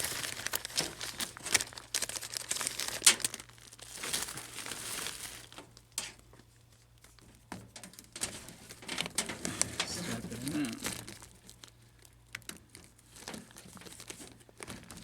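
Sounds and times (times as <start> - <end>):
plastic duct crinkling: 0.0 - 15.0.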